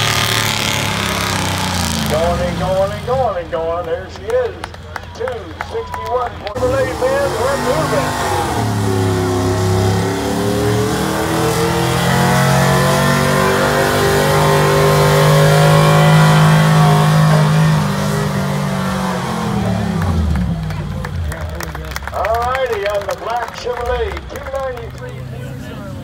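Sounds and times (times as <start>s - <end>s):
pickup truck engine under heavy load: 0.0s - 26.0s.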